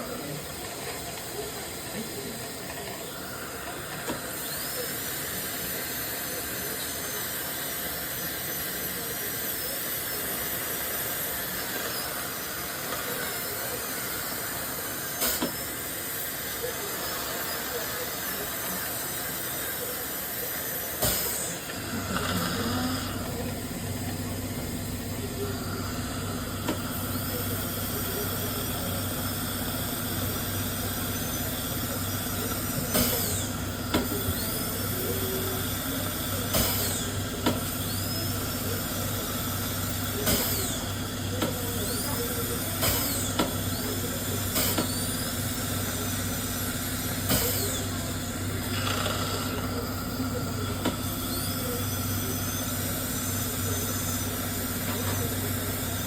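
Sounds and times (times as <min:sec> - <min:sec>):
dental drill whine: 0:00.0 - 0:56.0.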